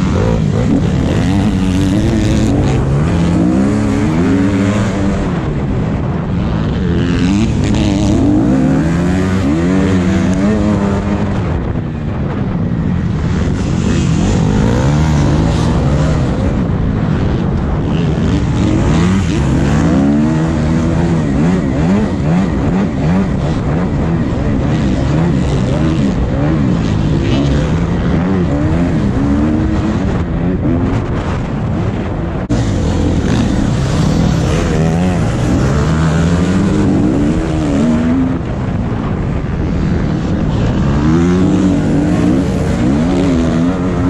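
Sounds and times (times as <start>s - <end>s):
motocross bike engine revving: 0.0s - 12.1s, 12.8s - 44.0s.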